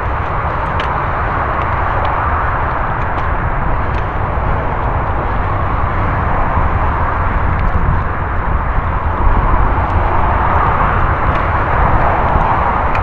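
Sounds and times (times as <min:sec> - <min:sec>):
bike clicks and rattles: 0:00.0 - 0:13.0
bike tyres on dirt trail: 0:00.0 - 0:13.0
wind on microphone: 0:00.0 - 0:13.0.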